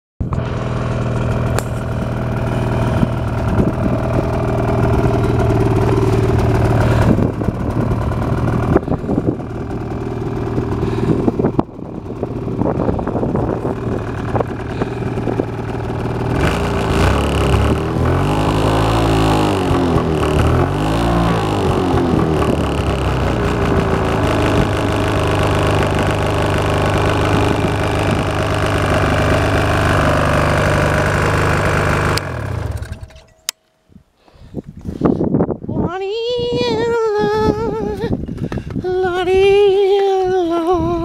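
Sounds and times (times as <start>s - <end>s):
snowmobile engine idling: 0.2s - 33.5s.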